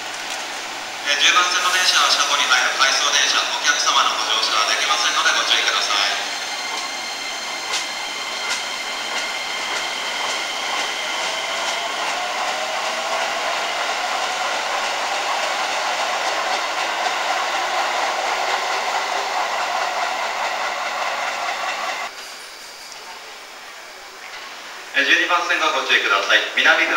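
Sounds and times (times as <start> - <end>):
electric train accelerating: 0.0 - 26.9.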